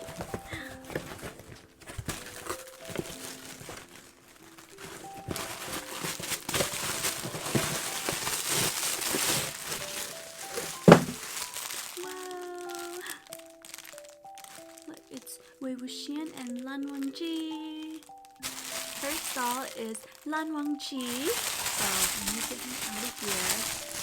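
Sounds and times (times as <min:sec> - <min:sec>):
packaging crinkling and rustling: 0:00.0 - 0:15.4, 0:16.3 - 0:24.0
soft background music: 0:00.0 - 0:24.0.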